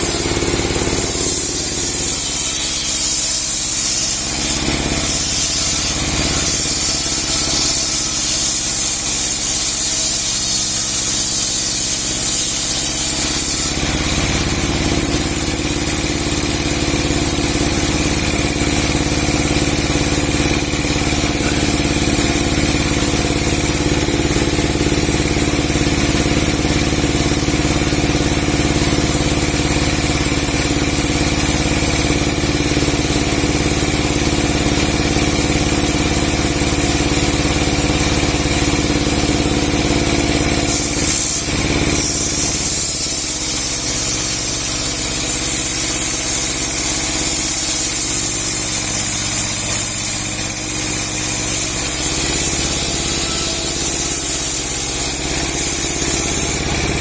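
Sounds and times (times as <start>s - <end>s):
saw blade hissing through wood: 0.0s - 57.0s
sawing machine running hum: 0.0s - 57.0s.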